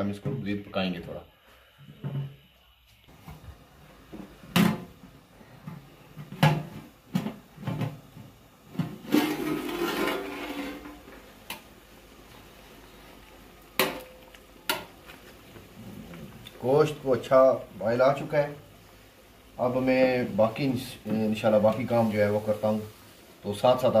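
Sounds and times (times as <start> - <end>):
rush of boiling pot noise: 3.1 - 24.0.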